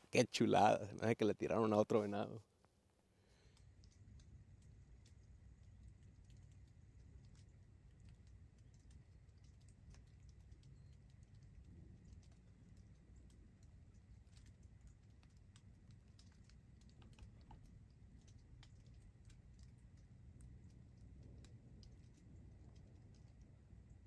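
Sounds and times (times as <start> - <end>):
low steady rumble: 0.0 - 24.0
faint small clicks and ticks: 1.5 - 24.0.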